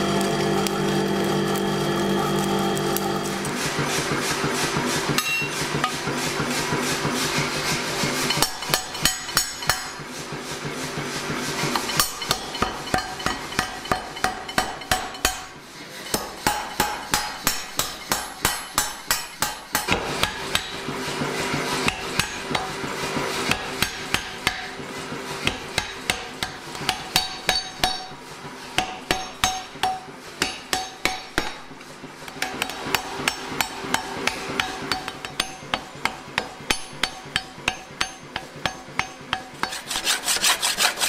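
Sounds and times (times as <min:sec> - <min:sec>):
power hammer striking hot steel: 0:00.0 - 0:41.0.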